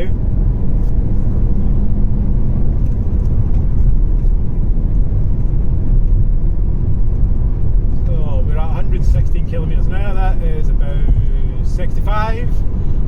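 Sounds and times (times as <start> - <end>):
in-cabin road noise: 0.0 - 13.0.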